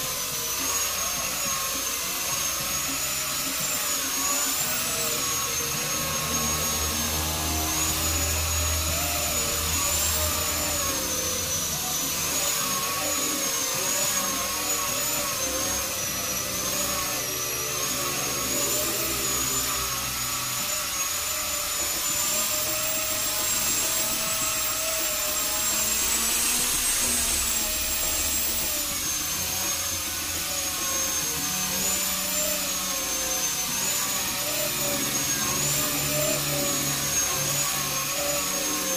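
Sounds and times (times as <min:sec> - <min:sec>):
angle grinder sanding wood: 0:00.0 - 0:38.9.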